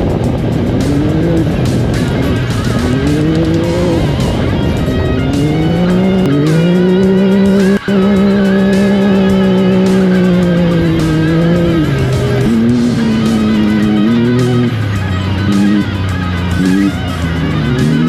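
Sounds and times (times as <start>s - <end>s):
music playing: 0.0s - 18.0s
race vehicle engine accelerating: 0.0s - 18.0s.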